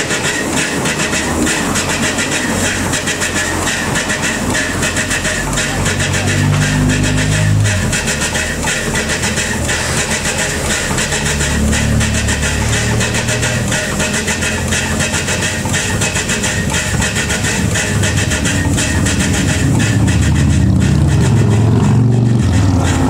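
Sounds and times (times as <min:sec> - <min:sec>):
steam train rumbling and hissing: 0:00.0 - 0:23.0.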